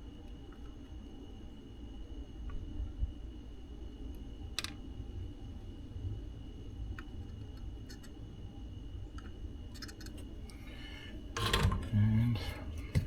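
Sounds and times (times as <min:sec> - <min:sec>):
faint high whine: 0:00.0 - 0:13.0
steady low hum: 0:00.0 - 0:13.0.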